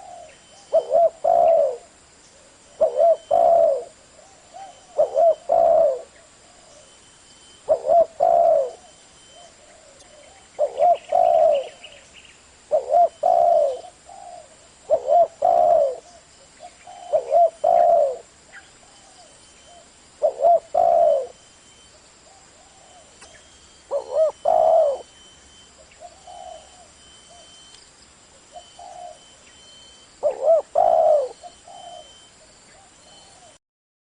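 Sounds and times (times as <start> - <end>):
dove cooing: 0.0 - 12.1, 12.7 - 27.6, 28.3 - 33.6.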